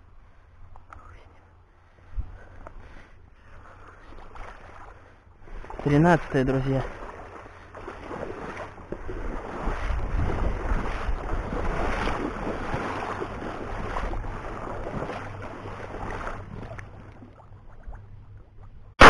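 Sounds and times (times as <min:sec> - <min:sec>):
water splashing around boat: 0:01.8 - 0:19.0
wind rumbling on microphone: 0:02.0 - 0:05.9, 0:06.8 - 0:19.0.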